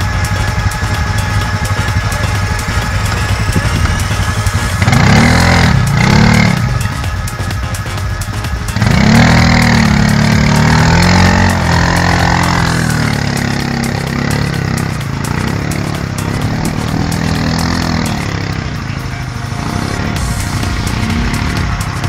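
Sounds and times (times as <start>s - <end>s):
quad engine revving: 0.0s - 22.0s.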